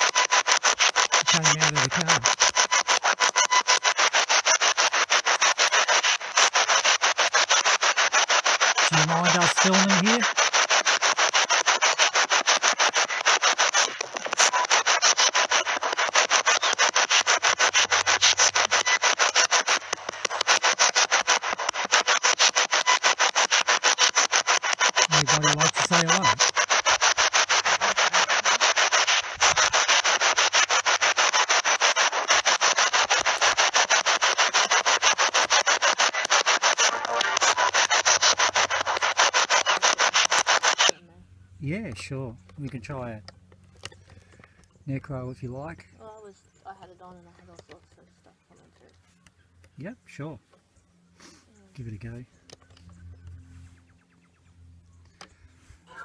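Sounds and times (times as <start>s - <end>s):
voice-like radio fragments: 0.0s - 50.6s, 51.6s - 53.8s, 55.1s - 56.0s
chopped radio static bursts: 0.0s - 56.0s.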